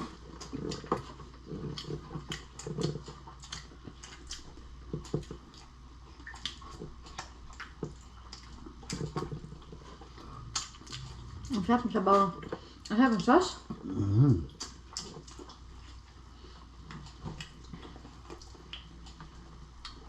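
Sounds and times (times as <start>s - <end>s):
lip-smacking: 0.0s - 20.0s
soft wet chewing: 0.0s - 20.0s.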